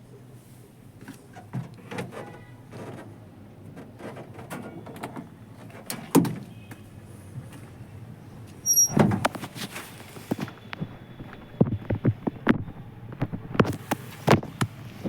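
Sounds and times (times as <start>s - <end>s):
knocks and clunks: 1.0s - 7.8s, 8.5s - 9.6s, 10.2s - 14.8s.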